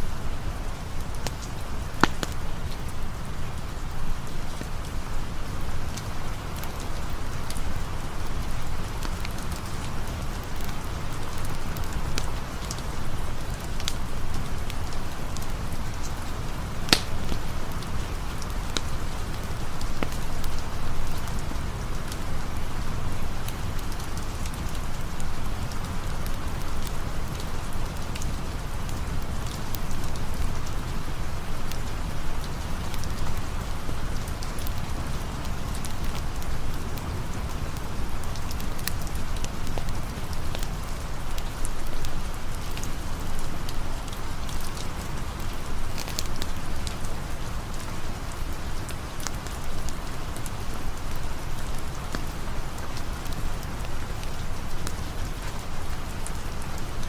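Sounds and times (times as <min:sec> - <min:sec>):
campfire crackling and popping: 0:00.0 - 0:57.0
steady rain falling: 0:00.0 - 0:57.0.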